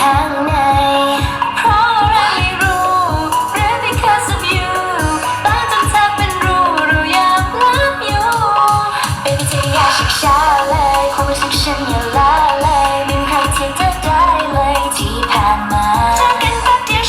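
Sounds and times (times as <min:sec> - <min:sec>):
pop song with woman singing: 0:00.0 - 0:17.0
steady driving beat: 0:00.0 - 0:17.0.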